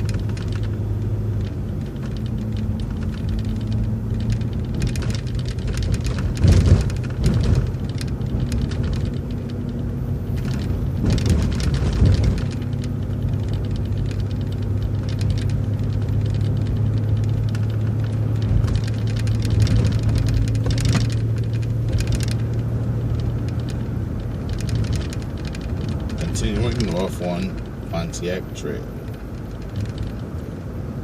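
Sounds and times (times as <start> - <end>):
bus body rattles and clicks: 0.0 - 31.0
bus engine hum: 0.0 - 31.0.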